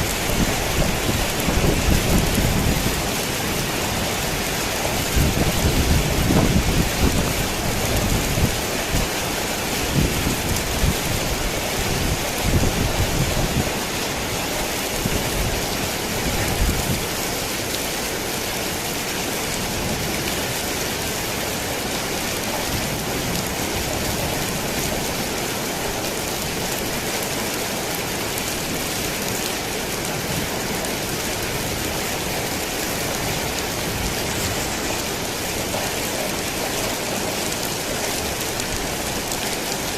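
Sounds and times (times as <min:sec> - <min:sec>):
rain drumming on a tin roof: 0:00.0 - 0:39.9.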